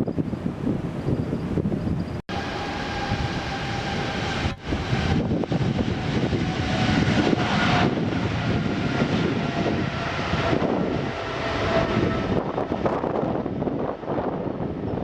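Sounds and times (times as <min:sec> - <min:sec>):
airliner engine rush: 0:00.0 - 0:15.0.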